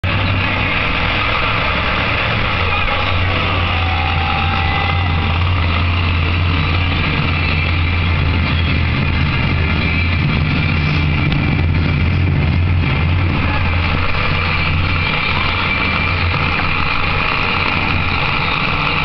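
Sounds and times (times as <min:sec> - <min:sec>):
voices: 0:00.0 - 0:09.2, 0:12.9 - 0:19.0
monster truck engine running: 0:00.0 - 0:19.0.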